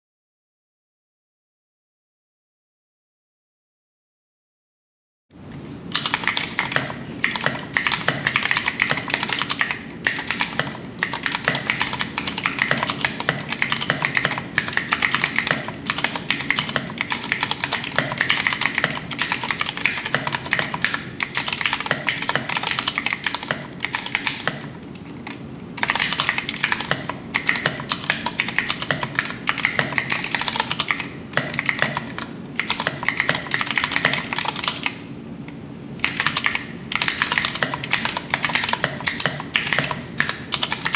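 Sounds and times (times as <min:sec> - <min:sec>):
mechanical keyboard typing: 0:05.9 - 0:35.0, 0:36.0 - 0:40.9.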